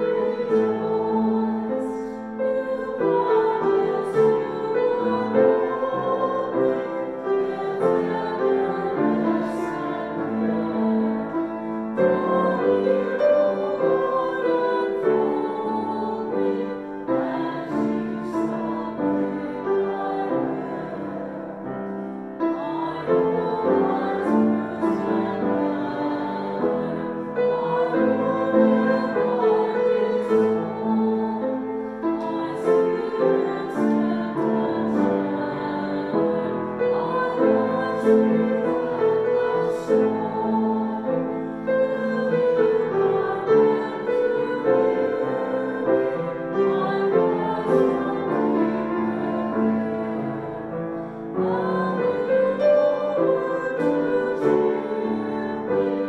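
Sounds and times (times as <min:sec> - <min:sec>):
hymn singing: 0:00.0 - 0:56.0
piano accompaniment: 0:00.0 - 0:56.0.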